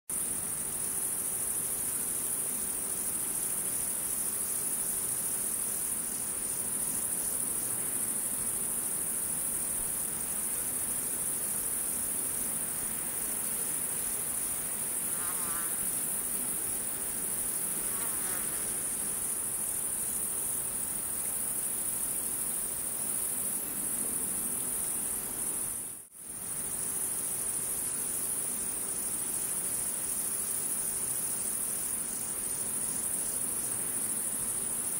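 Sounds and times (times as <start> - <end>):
high-pitched insect chirring: 0.2 - 34.9.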